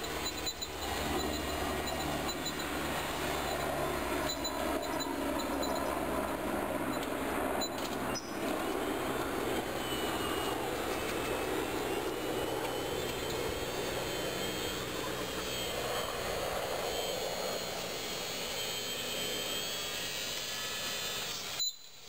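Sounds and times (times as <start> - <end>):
electric motor running under load: 0.0 - 21.6.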